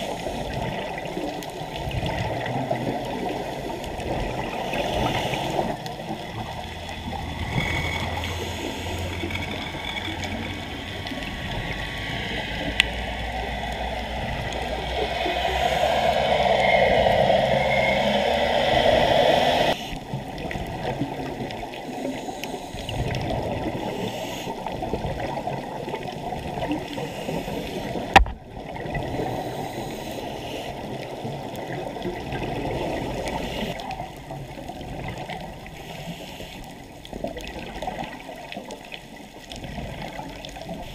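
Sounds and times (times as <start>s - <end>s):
underwater bubbling and rushing: 0.0s - 40.9s.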